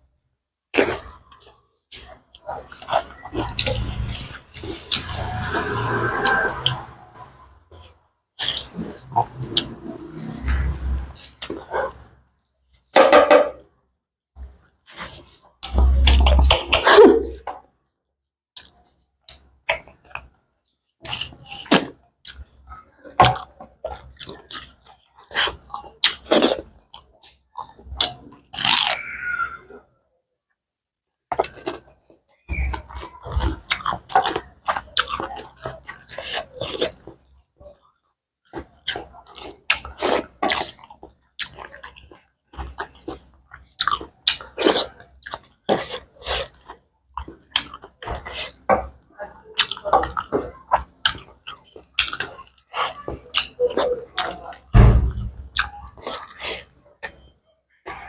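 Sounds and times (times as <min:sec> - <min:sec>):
chewing: 0:00.7 - 0:13.0, 0:14.4 - 0:17.6, 0:18.6 - 0:29.8, 0:31.3 - 0:58.0.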